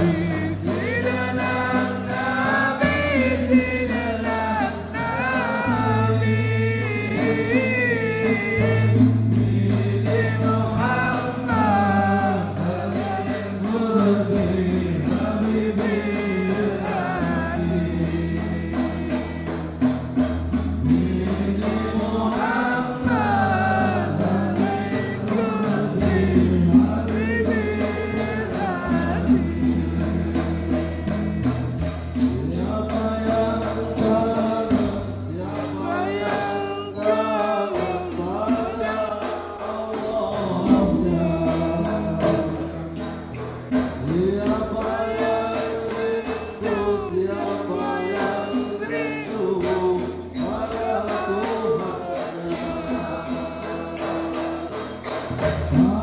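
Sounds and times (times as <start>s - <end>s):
light percussion: 0.0s - 56.0s
voices singing devotional song: 0.0s - 56.0s.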